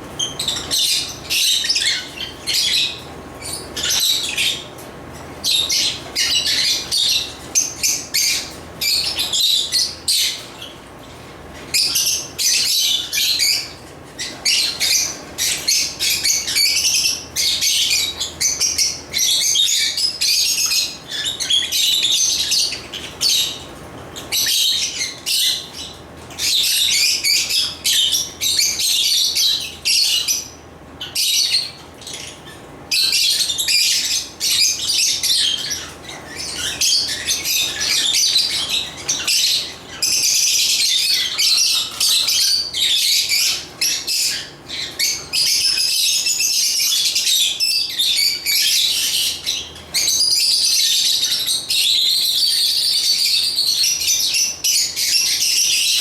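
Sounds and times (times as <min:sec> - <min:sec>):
lovebirds chirping: 0:00.1 - 0:56.0.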